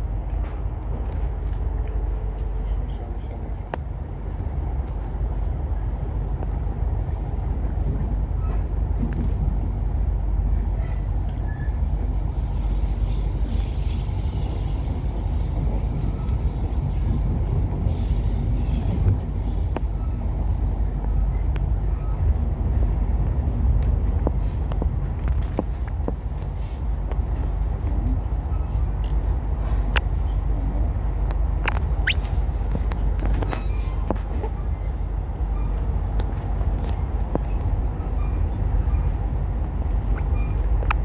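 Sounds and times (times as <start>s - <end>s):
train wheels rumbling: 0.0s - 41.0s.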